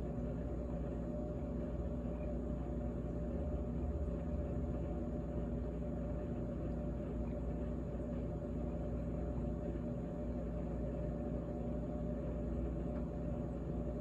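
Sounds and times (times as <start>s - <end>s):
refrigerator humming: 0.0s - 14.0s.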